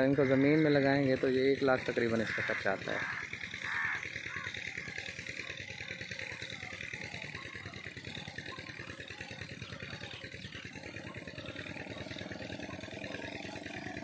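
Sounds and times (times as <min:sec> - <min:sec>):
water pump engine running: 0:00.0 - 0:14.0.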